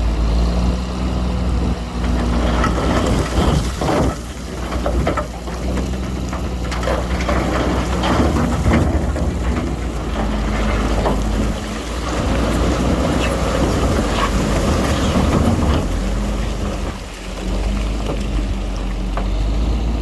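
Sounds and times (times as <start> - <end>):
heavy diesel machinery running: 0.0 - 20.0
crackle and rattle of rock: 1.9 - 19.4.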